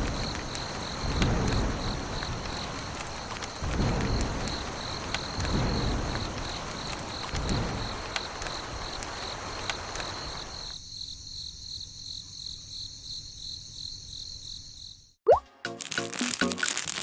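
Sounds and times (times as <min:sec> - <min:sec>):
cricket chirping: 0:00.0 - 0:15.1.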